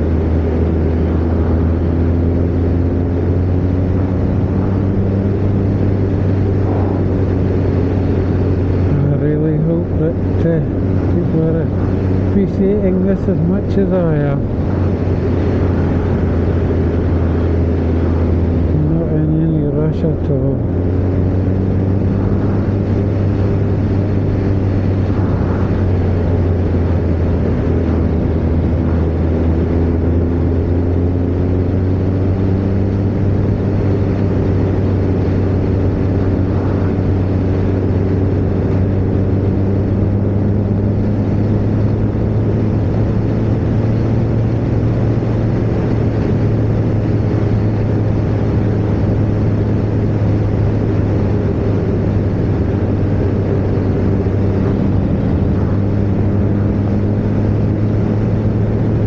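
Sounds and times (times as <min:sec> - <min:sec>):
motorcycle engine cruising: 0:00.0 - 0:59.0
wind noise: 0:00.0 - 0:59.0.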